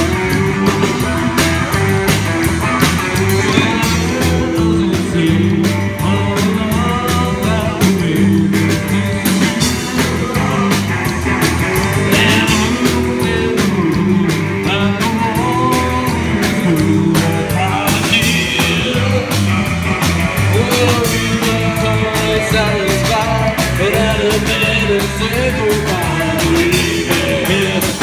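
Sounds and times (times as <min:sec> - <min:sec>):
drum kit: 0:00.0 - 0:28.0
electric guitar: 0:00.0 - 0:28.0
upright bass: 0:00.0 - 0:28.0.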